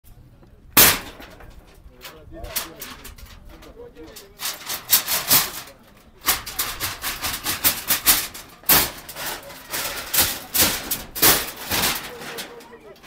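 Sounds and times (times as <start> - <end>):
corrugated iron sheets rattling: 0.8 - 13.0.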